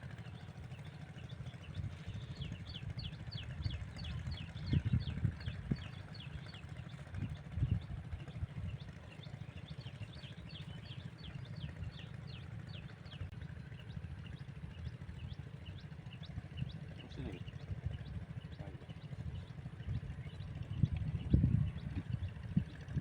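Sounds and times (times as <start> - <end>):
low rhythmic engine throb: 0.0 - 23.0
small birds chirping: 0.1 - 23.0.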